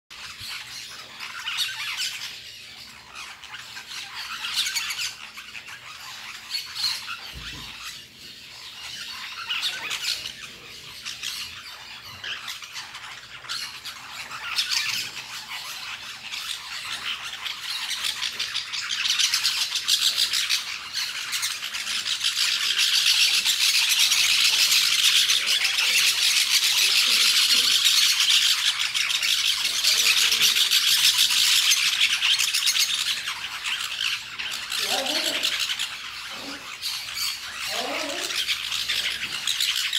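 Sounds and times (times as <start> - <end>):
parakeets squawking and chattering: 0.1 - 39.9.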